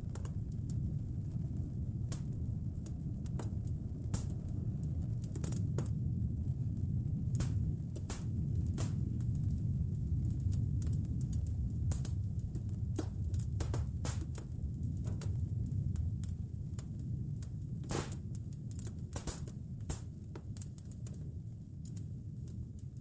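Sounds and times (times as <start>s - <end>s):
low steady rumble: 0.0s - 23.0s
wood fire crackling: 0.0s - 23.0s.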